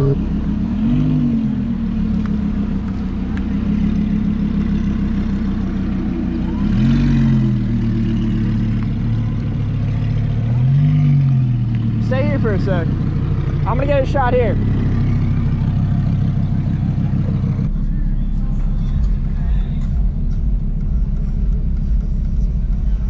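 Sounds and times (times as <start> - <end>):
car engine at low revs: 0.0 - 23.0
engine throttle blips: 0.0 - 23.0.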